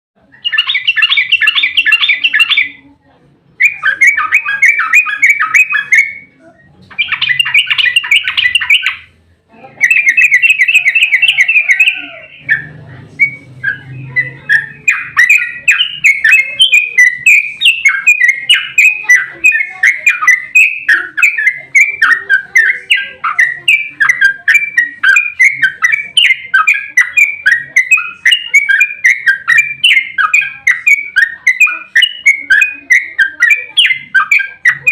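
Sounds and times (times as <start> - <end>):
bulbul singing rapid song: 0.3 - 2.9, 3.6 - 34.9.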